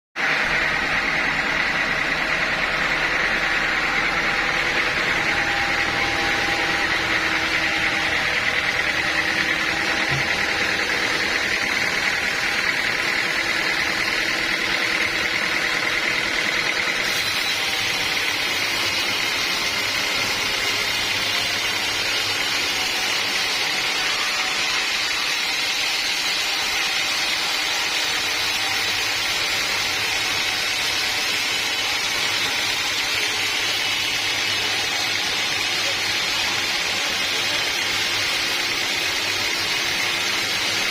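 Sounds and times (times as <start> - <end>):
sawmill machinery whining: 0.2 - 40.9.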